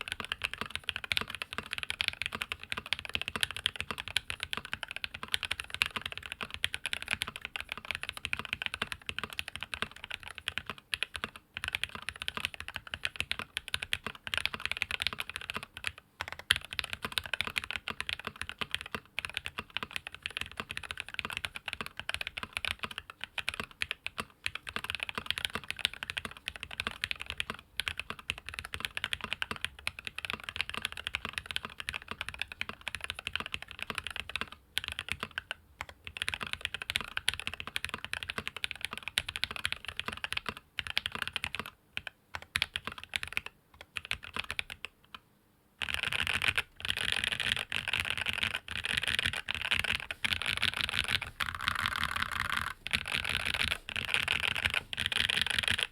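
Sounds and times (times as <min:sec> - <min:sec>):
fast mechanical keyboard typing: 0:00.0 - 0:45.0, 0:45.8 - 0:55.9.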